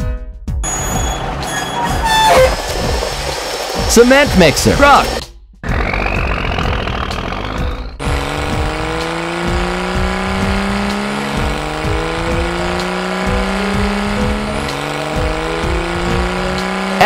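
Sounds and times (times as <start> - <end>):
background music: 0.0 - 17.0
cartoon truck engine rumbling: 0.5 - 17.0
engine rising in pitch: 0.6 - 17.0.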